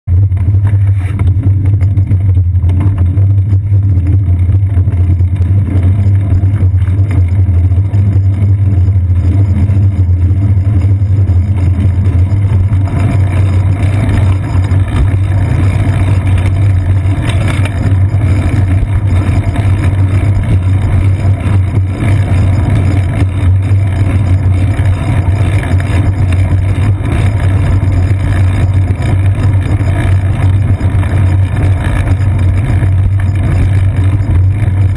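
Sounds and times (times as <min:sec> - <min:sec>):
wind rumble: 0:00.1 - 0:34.9.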